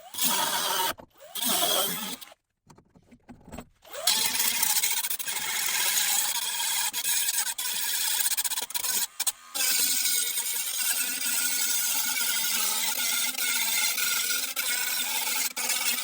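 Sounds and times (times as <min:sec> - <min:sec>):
power tool cutting sheet steel: 0:00.0 - 0:02.3, 0:03.9 - 0:16.0.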